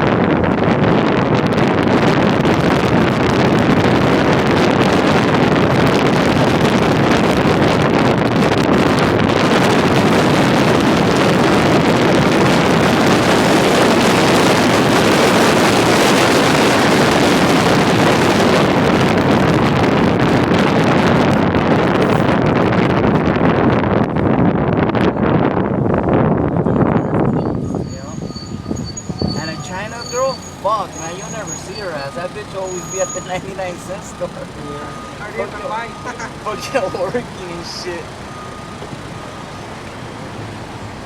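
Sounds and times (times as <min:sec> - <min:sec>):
car road noise: 0:00.0 - 0:41.0
wind rushing over microphone: 0:00.0 - 0:41.0.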